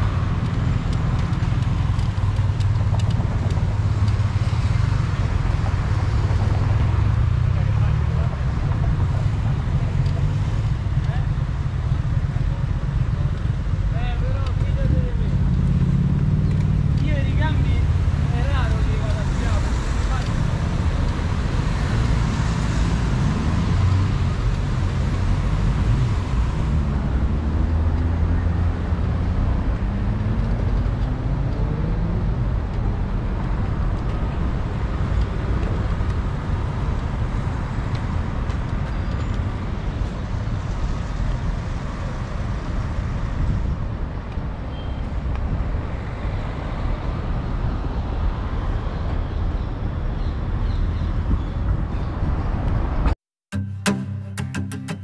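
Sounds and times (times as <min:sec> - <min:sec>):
traffic rumble: 0:00.0 - 0:53.2.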